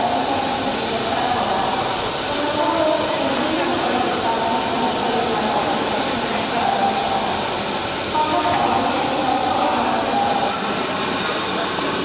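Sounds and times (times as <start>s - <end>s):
train running with hiss: 0.0s - 12.0s.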